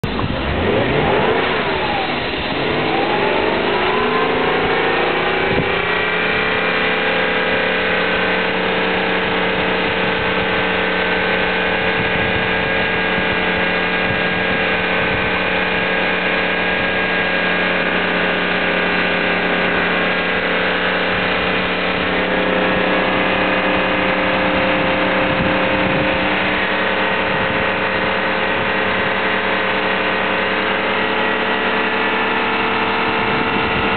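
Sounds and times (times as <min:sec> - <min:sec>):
engine revving and idling: 0:00.0 - 0:33.9.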